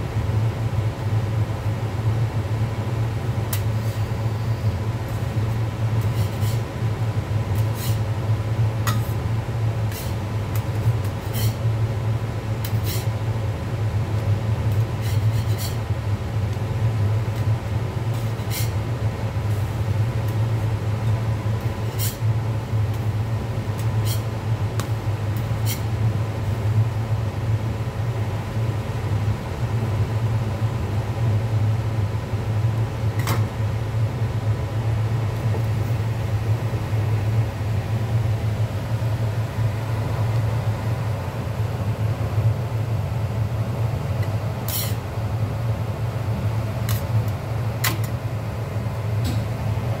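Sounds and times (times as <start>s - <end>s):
kitchen machinery humming: 0.0s - 50.0s.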